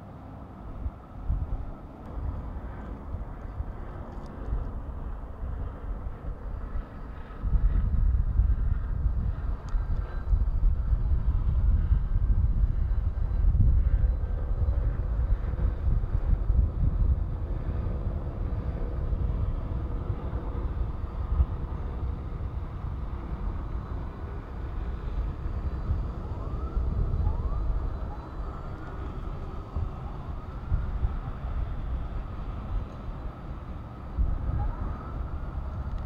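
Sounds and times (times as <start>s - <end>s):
traffic rumble: 0.0s - 36.0s
distant siren sweeps: 1.7s - 36.0s.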